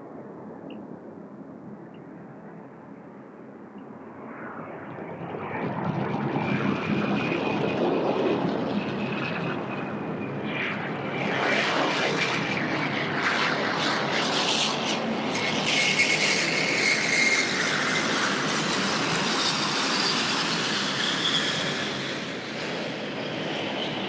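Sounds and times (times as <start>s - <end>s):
jet engine roar and whine: 0.0s - 24.0s.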